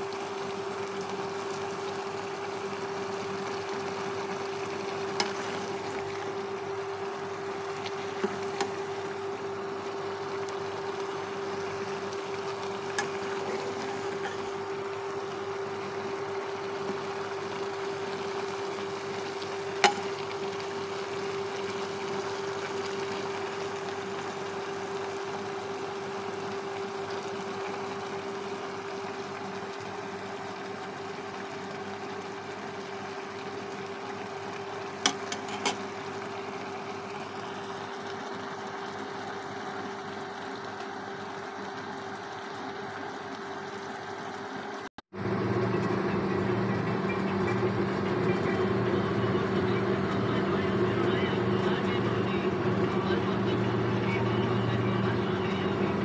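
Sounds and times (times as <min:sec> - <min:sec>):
induction cooktop humming: 0:00.0 - 0:56.0
pot simmering: 0:00.0 - 0:56.0.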